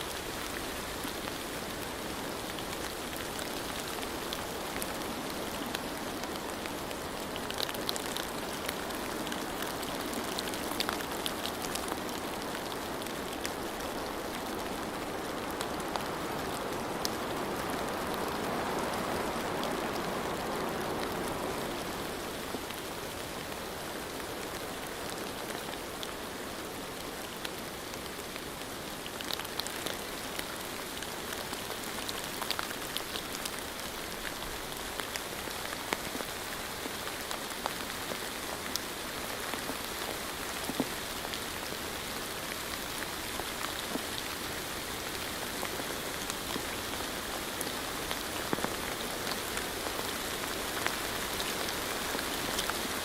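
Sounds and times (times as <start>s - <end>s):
rain drops pattering on hard surface: 0.1s - 53.0s.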